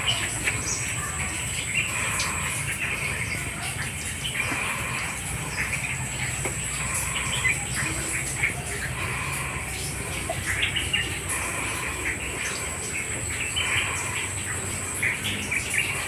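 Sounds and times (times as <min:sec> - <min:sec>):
low steady hum: 0:00.0 - 0:16.0
small birds chirping: 0:00.0 - 0:16.0.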